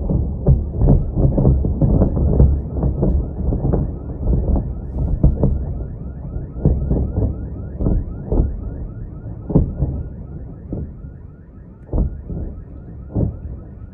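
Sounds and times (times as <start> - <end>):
distant explosions booming: 0.0 - 13.9.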